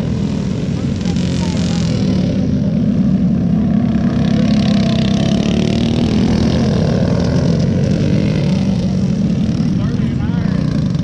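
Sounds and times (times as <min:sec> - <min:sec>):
go-kart engines droning: 0:00.0 - 0:11.0.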